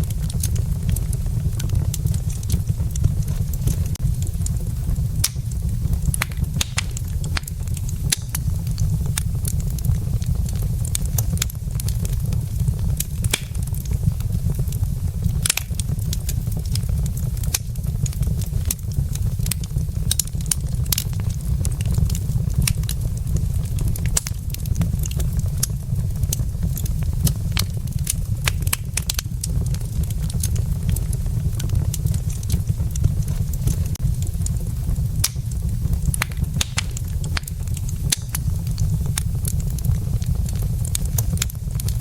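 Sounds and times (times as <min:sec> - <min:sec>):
wood fire popping and snapping: 0:00.0 - 0:42.0.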